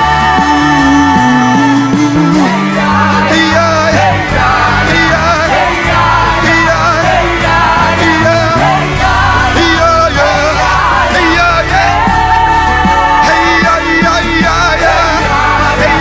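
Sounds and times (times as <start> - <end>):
voices singing and shouting: 0.0 - 16.0
worship band playing: 0.0 - 16.0.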